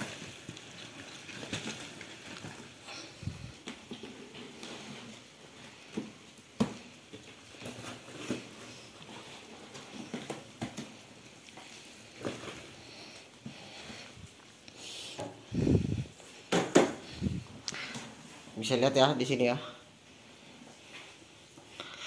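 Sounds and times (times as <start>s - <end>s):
rustling: 0.0s - 22.0s.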